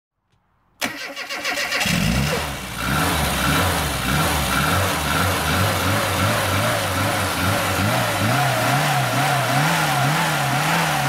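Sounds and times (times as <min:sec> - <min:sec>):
car engine starting and running: 0:00.8 - 0:11.0.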